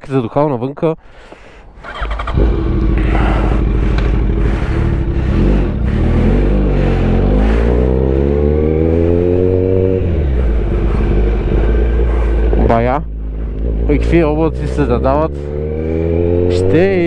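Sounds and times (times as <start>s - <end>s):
motorcycle engine accelerating: 1.8s - 17.0s.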